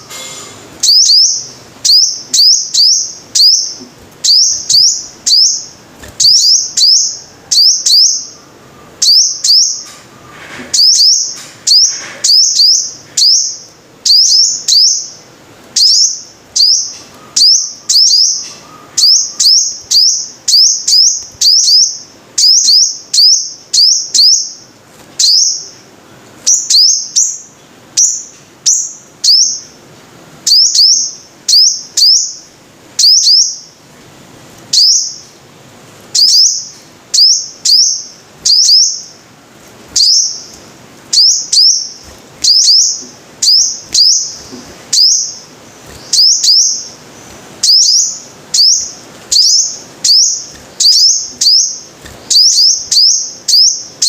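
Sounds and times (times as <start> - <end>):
sunbird chirping: 0.0 - 33.9, 34.7 - 54.0.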